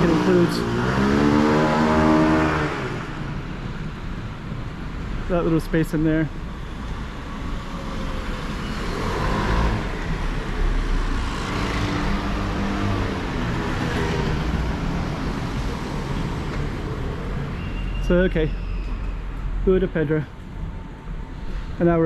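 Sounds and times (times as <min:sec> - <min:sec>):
road noise rumble: 0:00.0 - 0:22.0.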